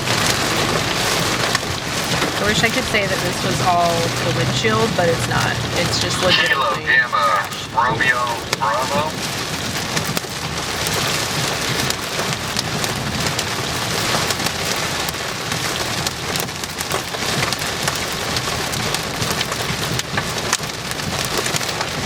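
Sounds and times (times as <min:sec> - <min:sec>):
rain and hail on vehicle roof: 0:00.0 - 0:22.0.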